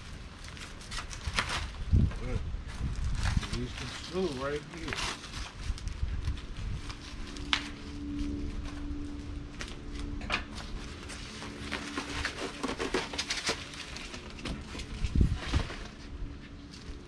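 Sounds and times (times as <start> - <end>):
packing paper rustling: 0.0 - 2.0, 2.7 - 17.0.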